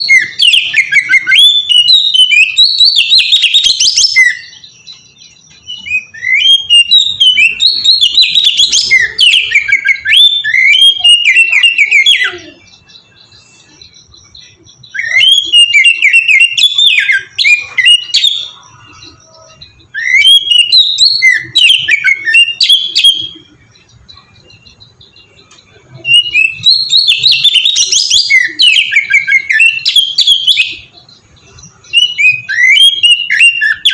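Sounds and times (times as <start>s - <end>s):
bird singing whistled phrases: 0.0s - 23.6s, 24.2s - 33.9s.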